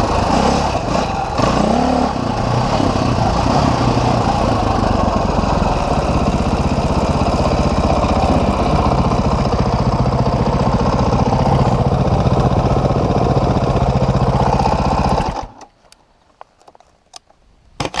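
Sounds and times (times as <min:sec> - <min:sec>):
dirt bike engine running: 0:00.0 - 0:15.5.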